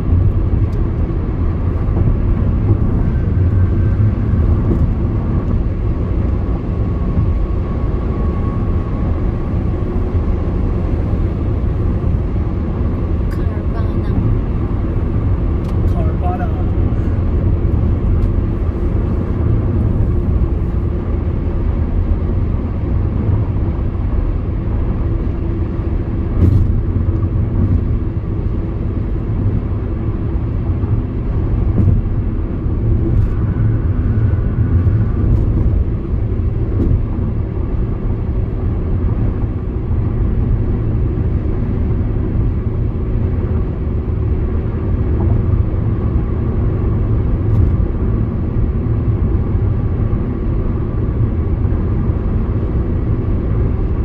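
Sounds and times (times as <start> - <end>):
faint engine hum: 0.0 - 54.0
tyre and road noise: 0.0 - 54.0.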